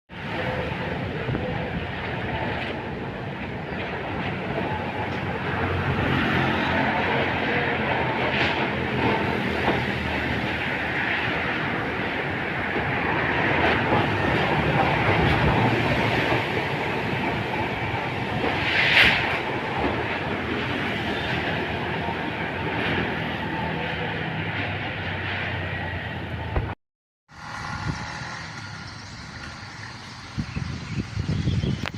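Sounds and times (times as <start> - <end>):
storm wind blowing hard: 0.2 - 23.6, 27.4 - 31.9.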